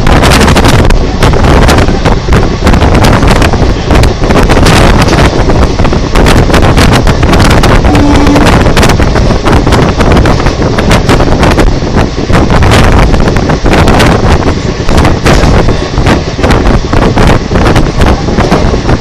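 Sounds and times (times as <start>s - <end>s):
train knocks: 0.0s - 19.0s
train passing at speed: 0.0s - 19.0s
wind buffeting microphone: 0.0s - 19.0s.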